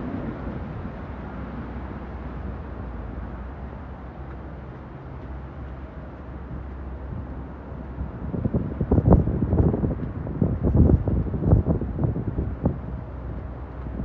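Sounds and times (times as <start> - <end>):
traffic rumble: 0.0 - 14.0
tyres hissing on wet streets: 0.0 - 14.0.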